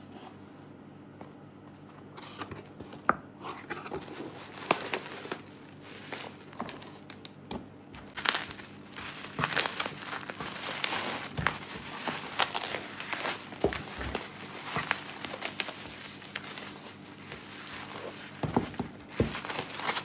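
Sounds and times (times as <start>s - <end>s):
cardboard box and packing rustling: 2.0s - 7.2s, 8.0s - 20.0s.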